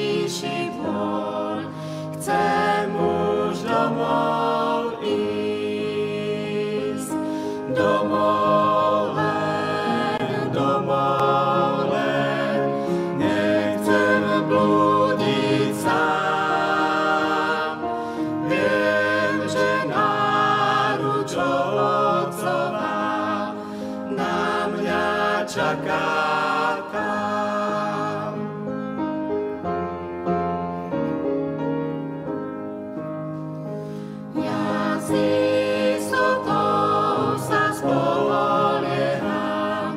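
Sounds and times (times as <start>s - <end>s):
vocal quartet singing hymn: 0.0s - 29.0s, 33.8s - 39.9s
upright piano: 0.0s - 39.9s.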